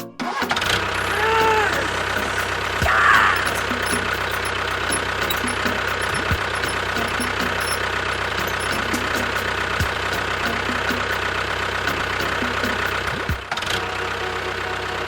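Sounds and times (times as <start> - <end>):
engine idling: 0.4 - 15.0.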